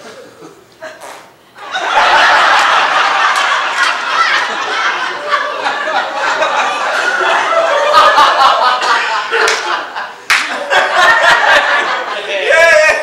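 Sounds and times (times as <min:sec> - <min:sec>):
audience laughing: 0:01.6 - 0:12.6.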